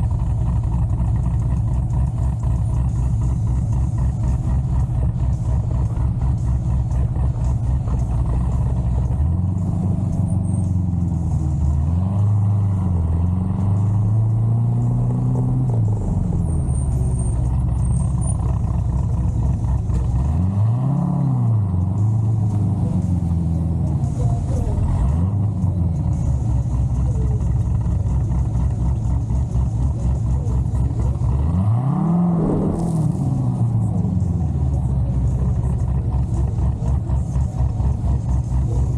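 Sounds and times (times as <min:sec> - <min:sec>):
car engine idling with lope: 0:00.0 - 0:38.9
engine revving: 0:00.0 - 0:38.9.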